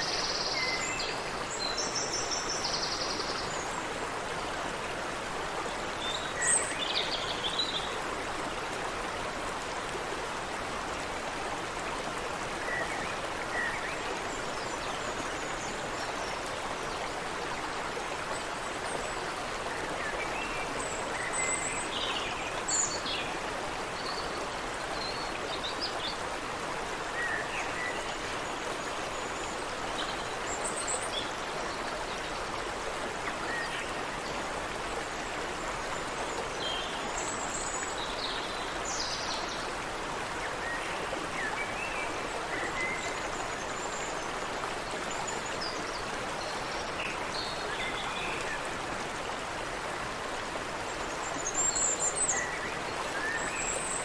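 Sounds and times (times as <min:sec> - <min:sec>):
creek running over rocks: 0:00.0 - 0:54.0.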